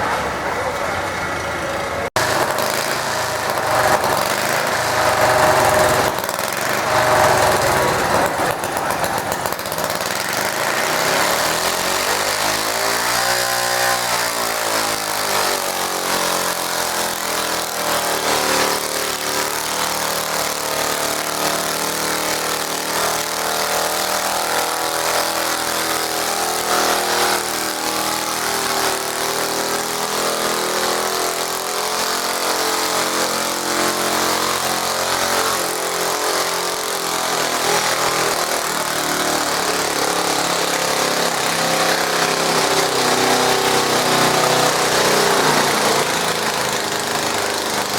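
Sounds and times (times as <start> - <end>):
garden tractor engine at high revs: 0.0 - 47.9.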